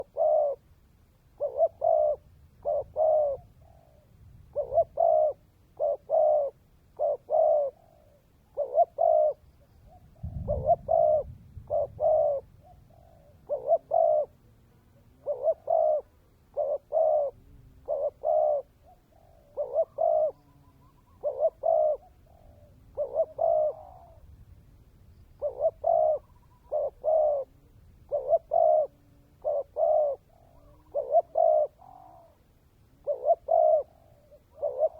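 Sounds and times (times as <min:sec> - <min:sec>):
dove cooing: 0:00.0 - 0:24.4, 0:25.1 - 0:34.9.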